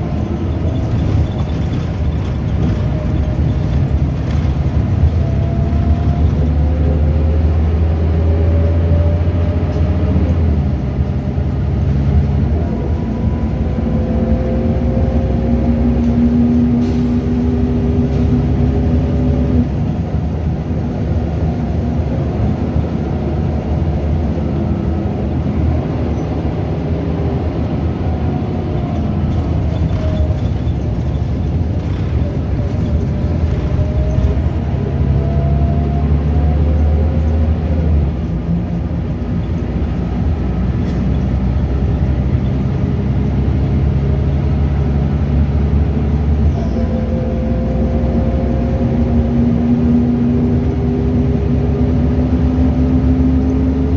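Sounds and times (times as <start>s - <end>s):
bus engine drone: 0.0s - 53.9s.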